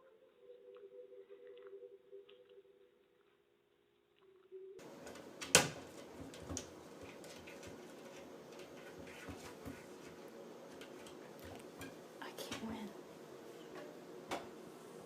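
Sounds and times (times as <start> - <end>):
room noise: 0.0 - 15.0.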